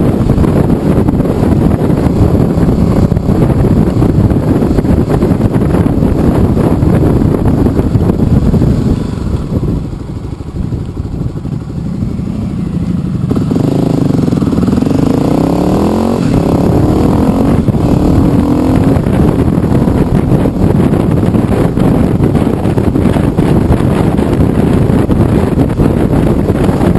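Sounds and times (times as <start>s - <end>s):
motorcycle engine accelerating: 0.0s - 26.9s
wind noise: 0.0s - 26.9s.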